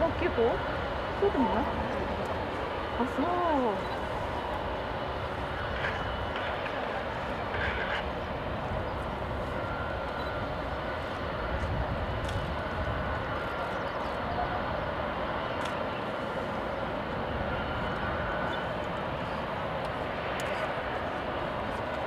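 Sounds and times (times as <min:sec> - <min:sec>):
jet engine rumble and whine: 0:00.0 - 0:22.0.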